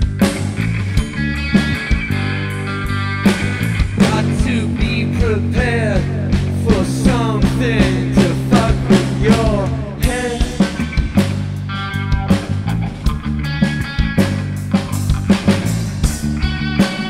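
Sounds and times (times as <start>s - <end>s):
drums steady beat: 0.0s - 17.0s
sustained bass notes: 0.0s - 17.0s.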